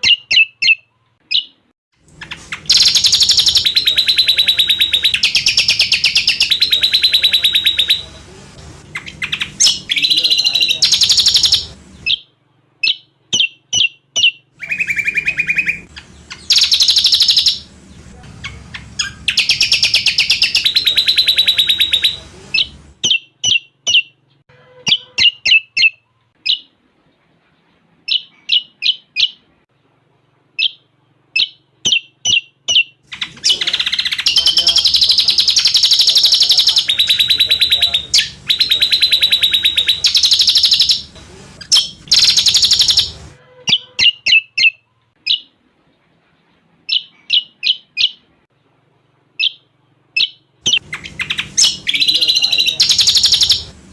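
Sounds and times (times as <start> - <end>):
bird trilling and chirping: 0.0 - 8.2, 8.8 - 26.8, 28.1 - 29.5, 30.6 - 45.6, 46.9 - 48.3, 49.4 - 53.9.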